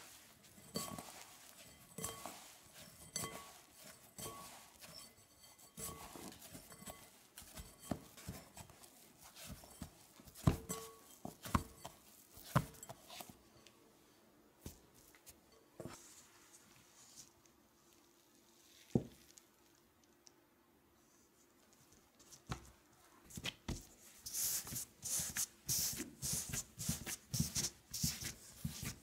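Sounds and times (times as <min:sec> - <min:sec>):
hands rubbing pastry dough: 0:00.0 - 0:13.7, 0:14.6 - 0:19.4, 0:23.2 - 0:29.0.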